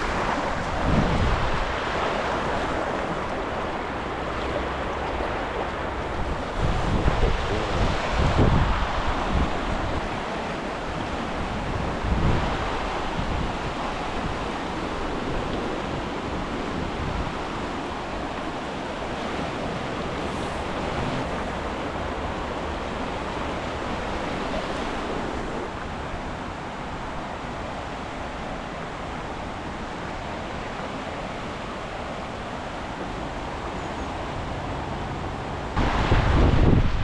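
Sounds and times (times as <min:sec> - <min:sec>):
wind buffeting microphone: 0:00.0 - 0:26.6, 0:33.1 - 0:37.0
river rushing: 0:00.0 - 0:37.0.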